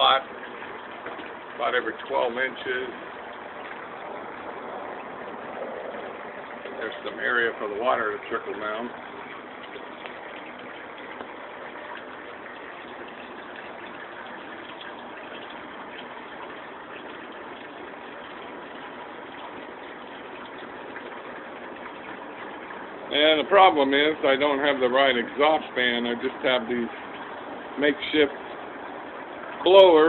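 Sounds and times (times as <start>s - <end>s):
box fans running: 0.0s - 30.0s
water trickling through cooling pad: 0.0s - 30.0s.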